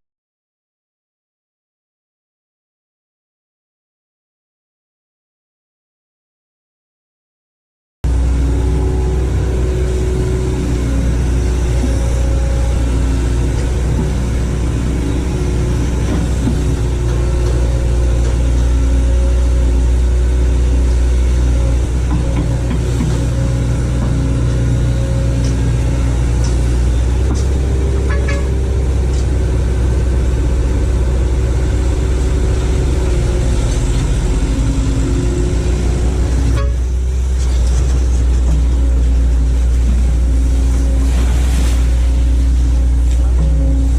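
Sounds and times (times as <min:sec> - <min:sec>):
excavator diesel engine droning: 0:08.0 - 0:43.9.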